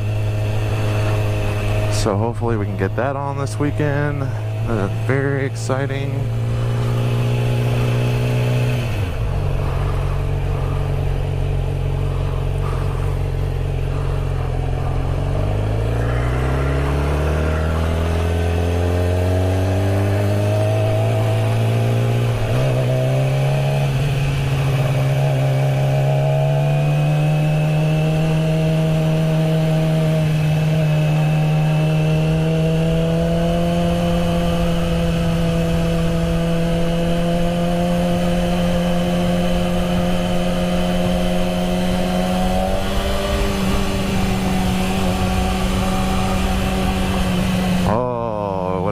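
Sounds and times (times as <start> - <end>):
motorcycle engine shifting gears: 0.0 - 48.9.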